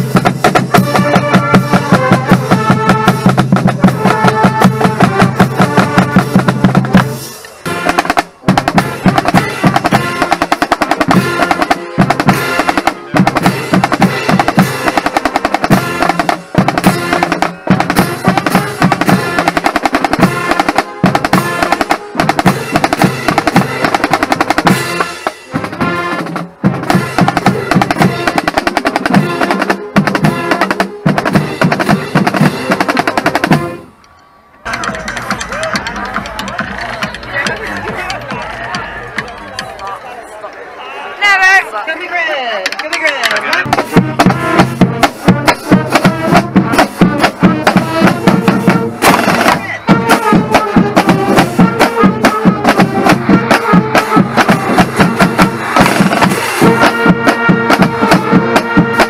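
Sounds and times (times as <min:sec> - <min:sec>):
snare and bass drums: 0:00.0 - 0:33.8, 0:34.7 - 0:39.8, 0:42.6 - 0:59.0.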